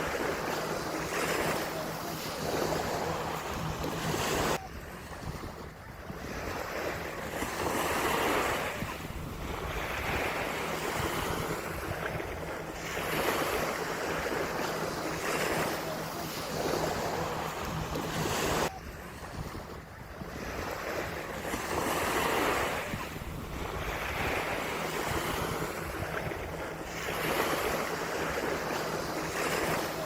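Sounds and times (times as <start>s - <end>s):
ocean surf breaking on beach: 0.0s - 30.0s.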